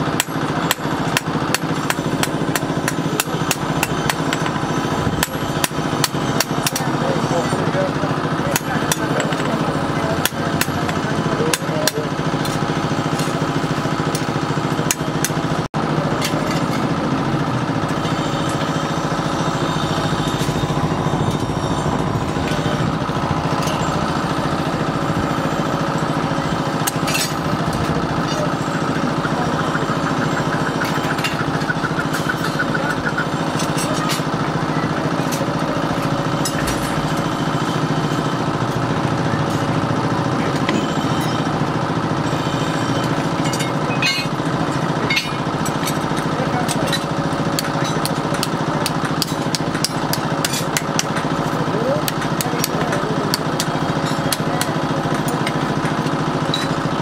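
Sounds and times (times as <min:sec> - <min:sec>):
machine motor running: 0:00.0 - 0:57.0.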